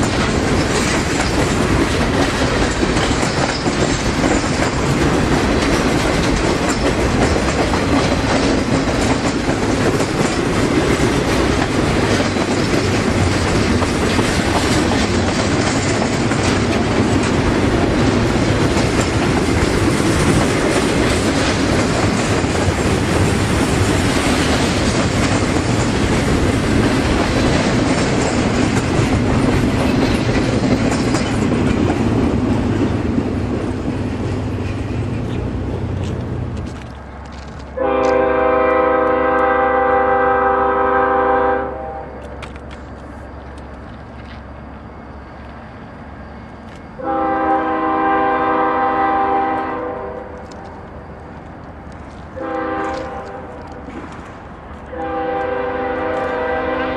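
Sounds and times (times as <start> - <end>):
freight train wheels clacking: 0.0 - 56.9.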